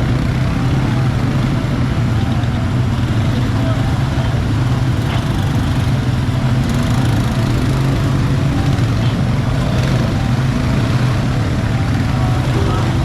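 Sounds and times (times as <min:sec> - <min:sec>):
quad bike engine droning: 0:00.0 - 0:13.0.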